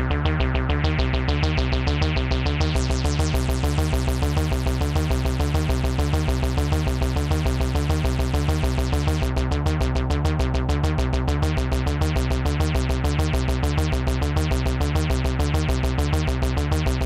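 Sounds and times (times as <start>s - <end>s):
synth bass arpeggio: 0.0s - 17.0s.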